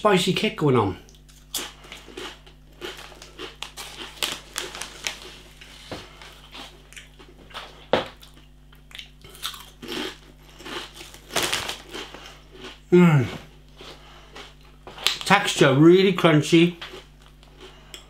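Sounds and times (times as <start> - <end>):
chewing crunchy crisps: 1.1 - 15.6, 16.6 - 18.0.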